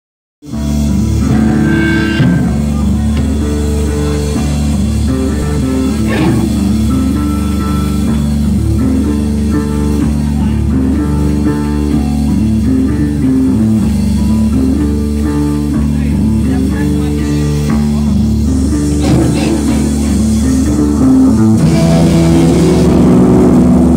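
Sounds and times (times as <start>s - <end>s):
electric guitar riff: 0.4s - 23.9s
rock band playing: 0.4s - 23.9s.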